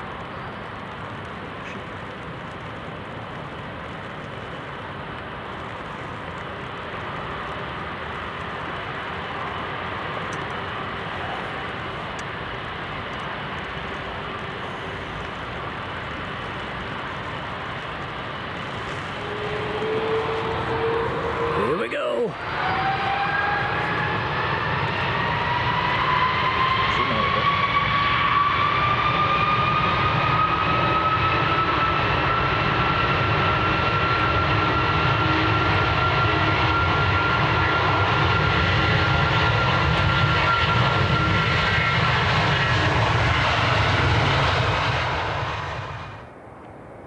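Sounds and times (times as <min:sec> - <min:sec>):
jet engines spooling up: 0:04.0 - 0:46.3.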